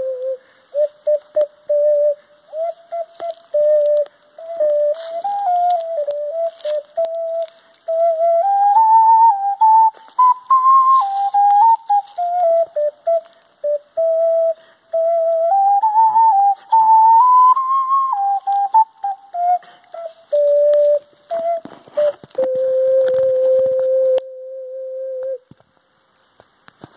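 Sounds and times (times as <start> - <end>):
ocarina melody: 0.0 - 25.6.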